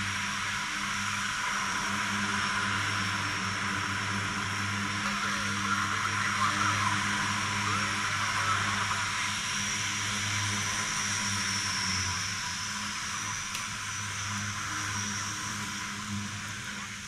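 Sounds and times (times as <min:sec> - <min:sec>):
turboprop engines running: 0:00.0 - 0:17.0.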